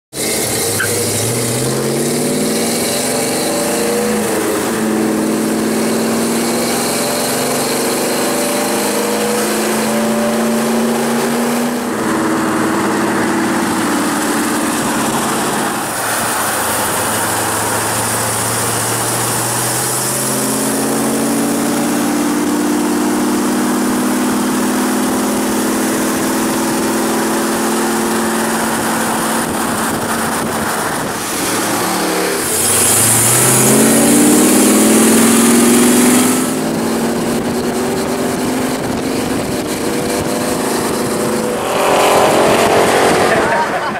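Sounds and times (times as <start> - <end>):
car engine accelerating: 0.1 - 43.9.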